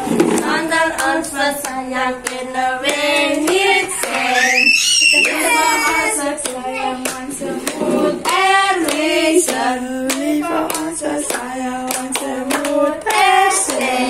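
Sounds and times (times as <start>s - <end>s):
women and children singing: 0.0s - 14.0s
hands clapping: 0.2s - 4.3s, 5.1s - 14.0s.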